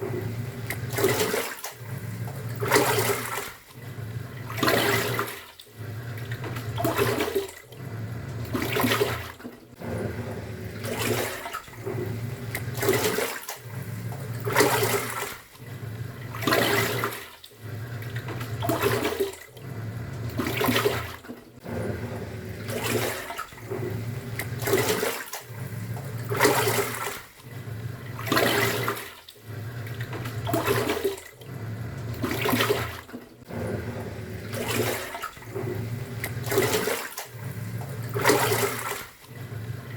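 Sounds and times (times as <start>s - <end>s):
washing machine motor humming: 0.0s - 39.9s
water sloshing: 0.0s - 39.9s.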